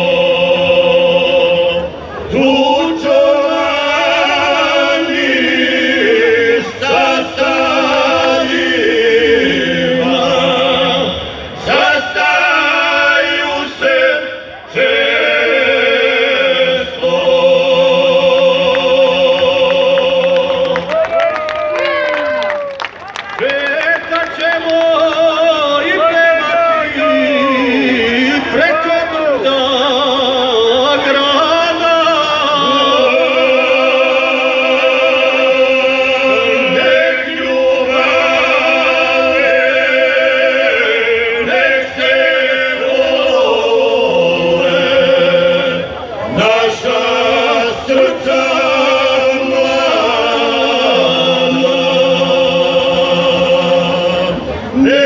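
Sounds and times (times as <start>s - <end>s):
male group singing in harmony: 0.0s - 21.0s, 23.4s - 55.0s.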